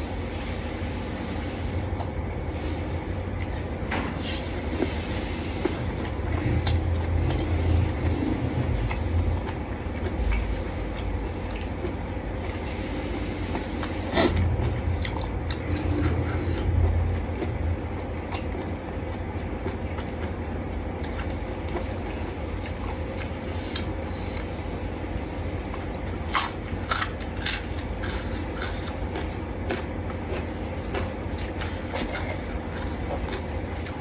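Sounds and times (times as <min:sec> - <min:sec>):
steady low hum: 0:00.0 - 0:34.0
person chewing: 0:01.7 - 0:24.8, 0:25.7 - 0:34.0.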